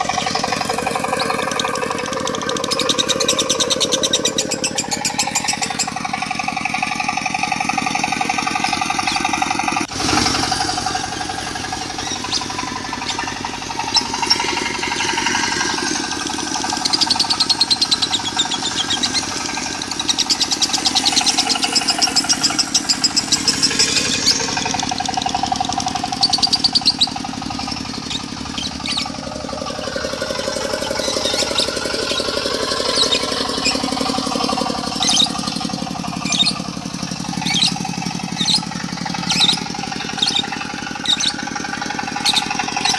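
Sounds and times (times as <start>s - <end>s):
bird chattering trills: 0.0s - 42.9s
diesel engine knocking: 0.0s - 42.9s.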